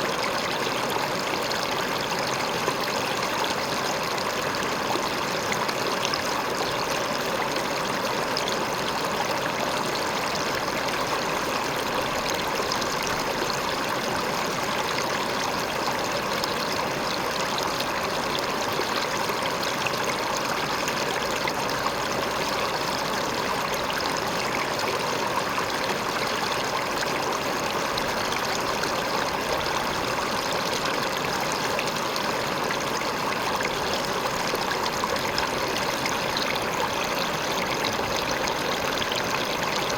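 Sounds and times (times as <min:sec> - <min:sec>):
river water pouring over rock: 0:00.0 - 0:39.9.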